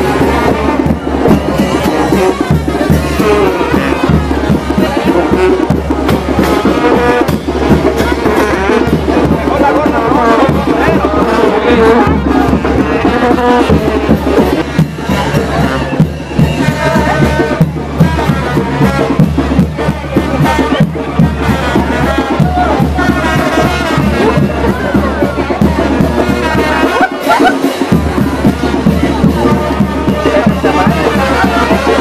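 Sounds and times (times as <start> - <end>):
brass band with drums playing: 0.0 - 32.0
crowd chatter: 0.0 - 32.0.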